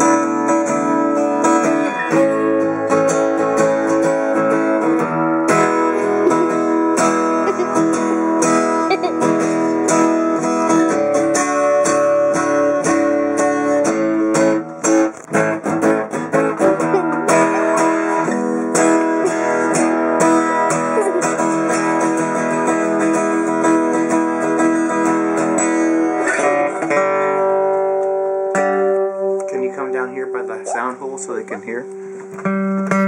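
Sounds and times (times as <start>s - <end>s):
acoustic guitar strumming chords: 0.0s - 33.0s.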